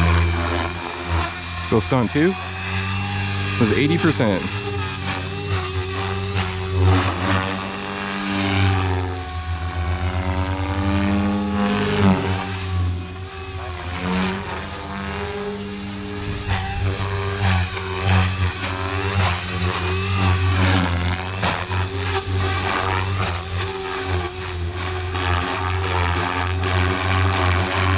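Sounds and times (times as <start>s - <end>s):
rc helicopter motor whine: 0.0s - 27.9s.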